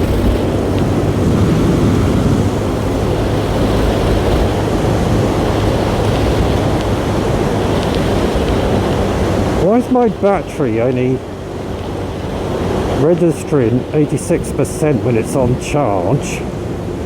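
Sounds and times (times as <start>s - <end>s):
motorcycle engine hum: 0.0s - 17.0s
wind rushing on microphone: 0.0s - 17.0s.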